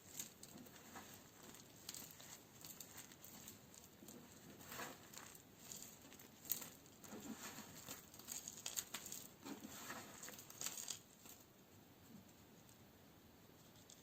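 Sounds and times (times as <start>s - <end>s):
crisp crackles and scrapes: 0.0s - 12.7s, 13.6s - 14.0s.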